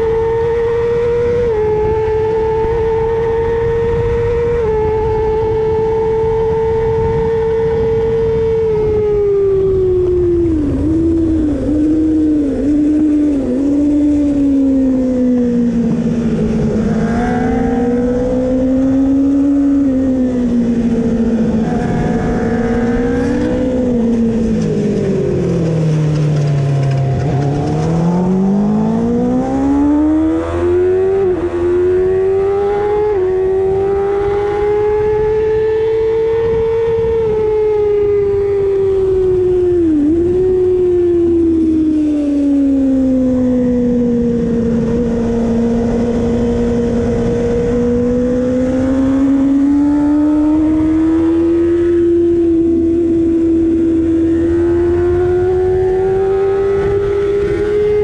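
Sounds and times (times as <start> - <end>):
motorcycle engine revving and shifting: 0.0 - 58.0.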